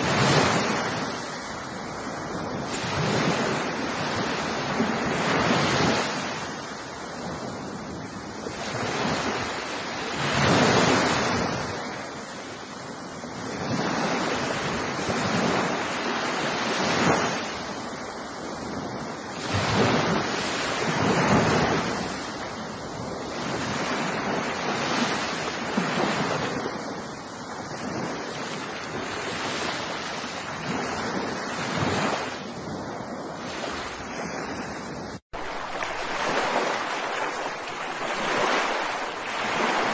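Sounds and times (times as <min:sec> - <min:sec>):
continuous surf wash: 0:00.0 - 0:39.9
ocean waves breaking: 0:00.0 - 0:39.9.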